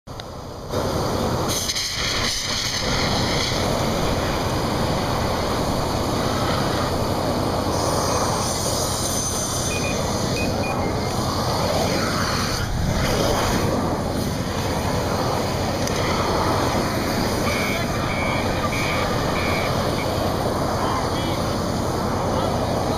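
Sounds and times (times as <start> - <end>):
flames rushing: 0.2 - 22.9
fire extinguisher hissing: 0.7 - 22.8.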